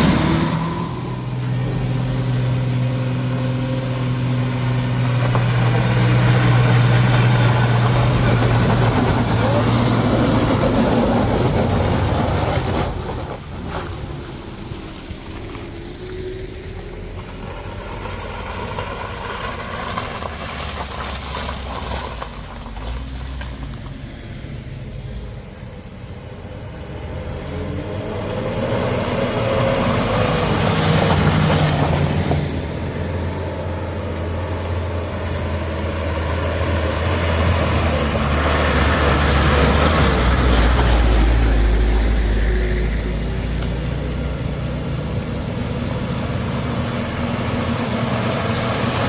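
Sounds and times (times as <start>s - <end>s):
heavy vehicle engines running: 0.0s - 49.0s.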